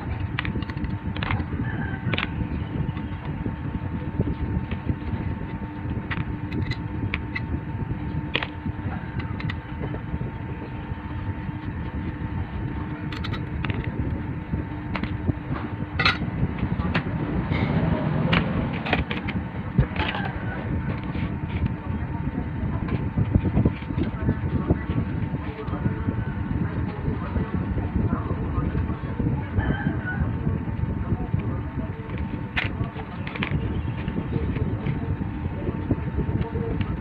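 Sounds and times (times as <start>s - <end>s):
faint constant hum: 0.0s - 37.0s
low background rumble: 0.0s - 37.0s.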